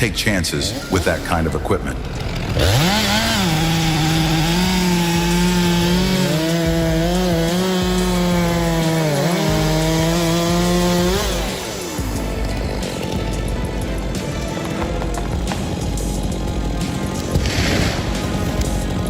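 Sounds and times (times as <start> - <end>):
chainsaw cutting wood: 0.7 - 19.0.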